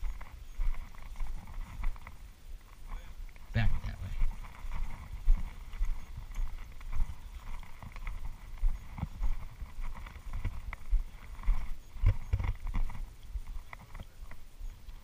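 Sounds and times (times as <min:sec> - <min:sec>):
faint rustling: 0:00.0 - 0:15.0
footsteps on grass: 0:00.0 - 0:15.0.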